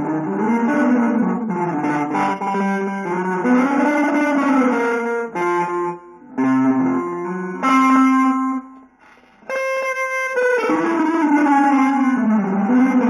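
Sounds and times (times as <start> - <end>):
held instrumental notes: 0.0 - 13.0.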